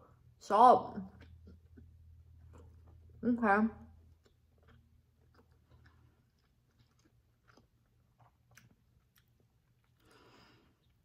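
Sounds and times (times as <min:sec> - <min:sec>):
person chewing food: 0:01.0 - 0:03.2, 0:03.9 - 0:11.0.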